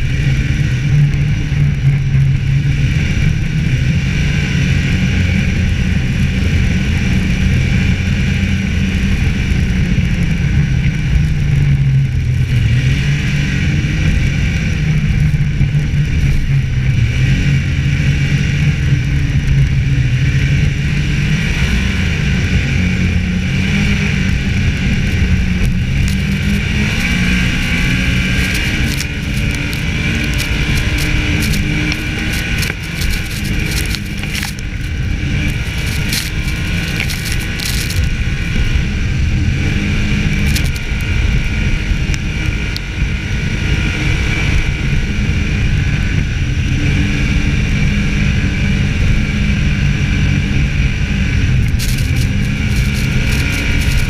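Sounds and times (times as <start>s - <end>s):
snowmobile engine running: 0.0s - 54.0s
track and wind noise: 0.0s - 54.0s.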